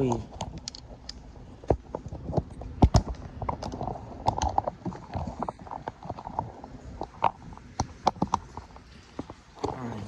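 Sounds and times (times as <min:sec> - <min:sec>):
low rumbling background: 0:00.0 - 0:10.0
phone being handled: 0:00.1 - 0:09.8.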